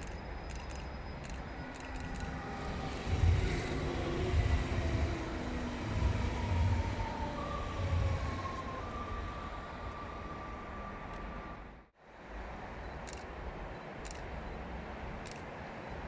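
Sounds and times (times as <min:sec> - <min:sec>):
faint train whine: 0:00.0 - 0:16.0
rail rumble: 0:00.0 - 0:16.0.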